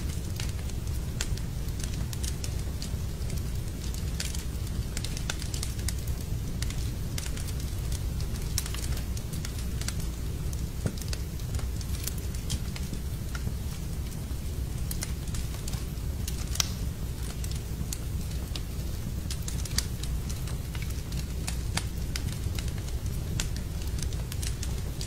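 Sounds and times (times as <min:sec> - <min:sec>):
low fire rumble: 0:00.0 - 0:25.0
wood fire crackling and popping: 0:00.0 - 0:25.0.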